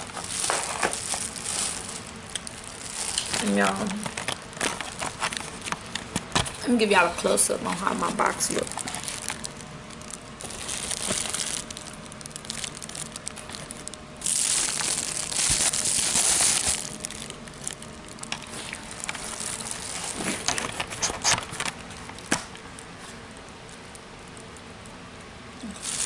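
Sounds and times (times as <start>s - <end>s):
sharp plastic crackles: 0.0s - 6.7s, 7.6s - 25.0s, 25.6s - 26.0s
plastic bags crinkling: 0.0s - 24.6s, 25.6s - 26.0s.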